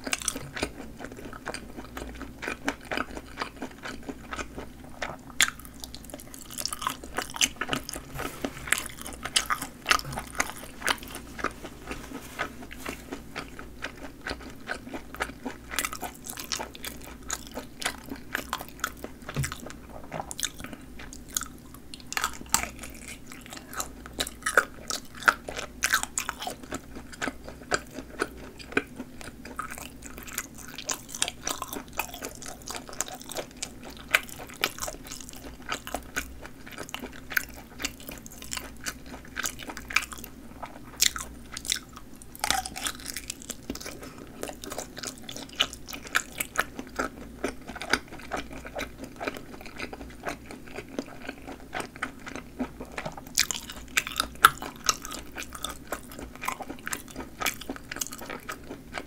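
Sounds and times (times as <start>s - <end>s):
chewing sausages with snaps: 0.0s - 59.0s.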